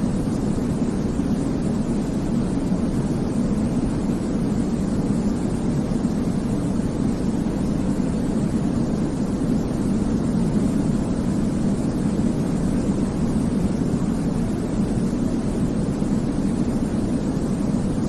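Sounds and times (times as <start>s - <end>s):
deep white noise hiss: 0.0s - 18.0s.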